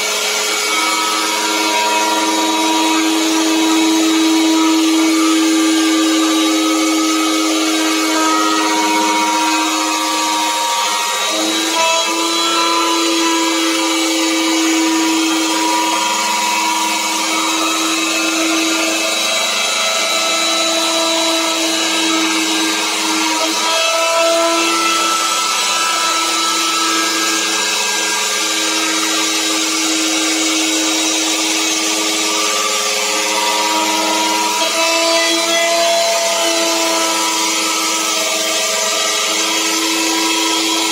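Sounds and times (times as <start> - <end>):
electric router cutting wood: 0.0 - 40.9.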